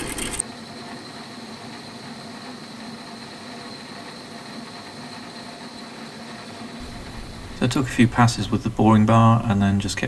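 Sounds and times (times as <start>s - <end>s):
faint high whine: 0.0s - 10.0s
metal lathe humming: 0.0s - 10.0s.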